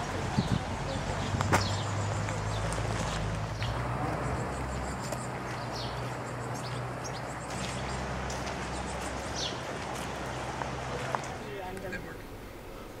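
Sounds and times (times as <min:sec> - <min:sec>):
footsteps on gravel: 0:00.0 - 0:11.4
birds chirping: 0:00.0 - 0:13.0.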